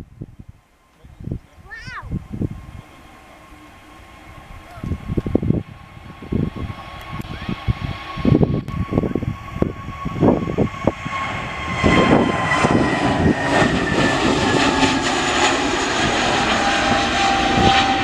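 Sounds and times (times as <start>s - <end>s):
jet engines roaring: 1.6s - 18.0s.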